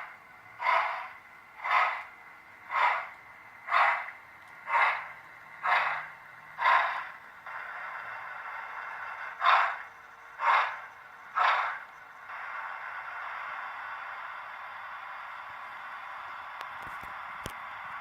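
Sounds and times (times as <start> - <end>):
steam locomotive chuffs: 0.0 - 18.0.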